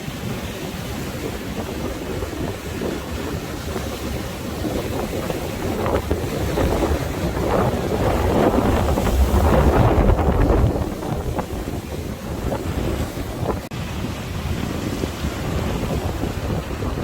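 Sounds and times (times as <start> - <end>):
sea waves surging: 0.0 - 17.0
wind buffeting microphone: 0.0 - 17.0.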